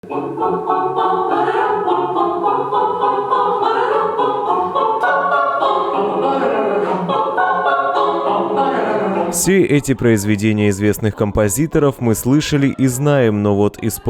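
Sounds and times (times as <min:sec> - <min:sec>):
choir singing a cappella: 0:00.0 - 0:14.0.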